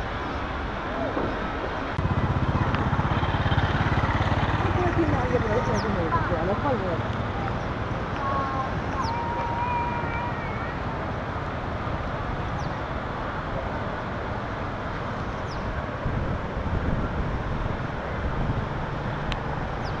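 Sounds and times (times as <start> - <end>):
outdoor rushing noise: 0.0 - 20.0
wind buffeting microphone: 0.0 - 20.0.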